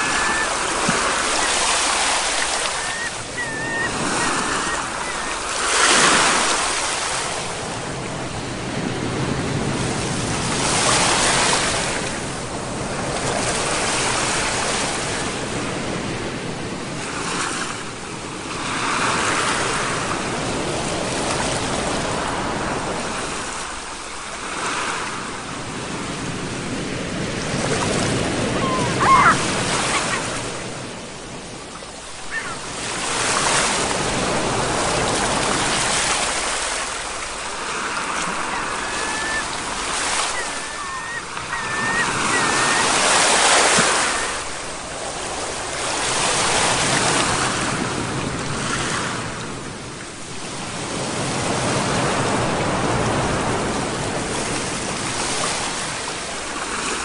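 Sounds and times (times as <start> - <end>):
ocean surf breaking on shore: 0.0 - 57.0.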